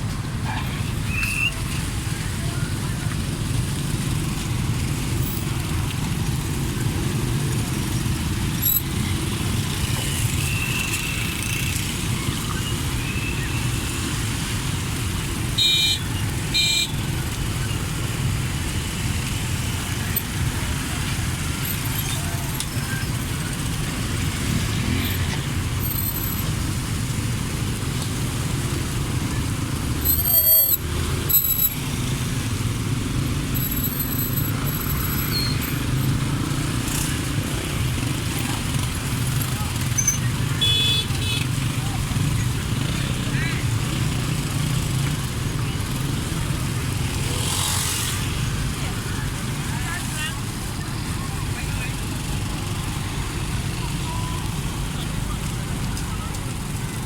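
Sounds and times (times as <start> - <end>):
ferry engine rumble: 0.0 - 47.2.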